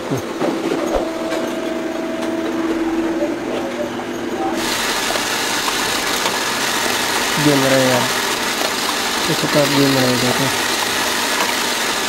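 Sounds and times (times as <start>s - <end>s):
loud hissing machine noise: 0.0s - 12.0s
machinery humming: 0.0s - 12.0s.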